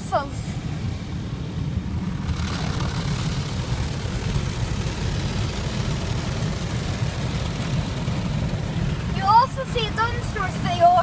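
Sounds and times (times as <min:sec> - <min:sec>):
car wash brushes and water swishing: 0:00.1 - 0:11.0
low rumble: 0:00.5 - 0:11.0.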